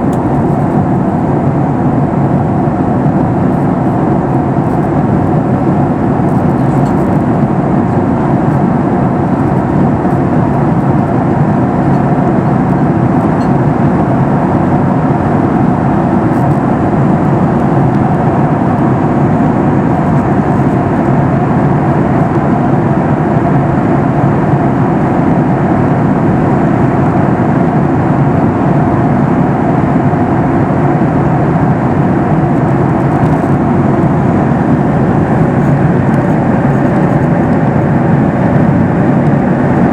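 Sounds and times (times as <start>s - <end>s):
air rushing along fuselage: 0.0s - 39.9s
jet engines droning: 0.0s - 39.9s.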